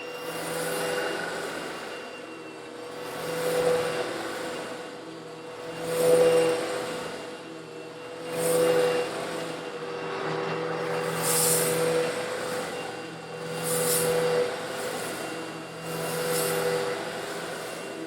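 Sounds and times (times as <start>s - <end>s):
vacuum cleaner sucking up grit: 0.1s - 18.0s.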